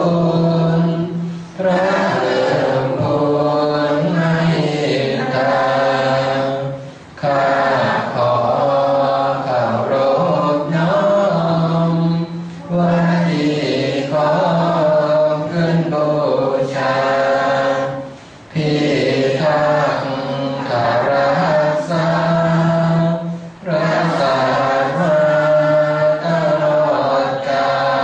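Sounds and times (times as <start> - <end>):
group chanting in unison: 0.0 - 28.0.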